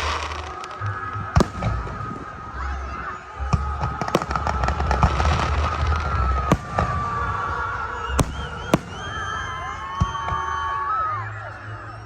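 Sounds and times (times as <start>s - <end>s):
fireworks crackling: 0.0s - 10.7s.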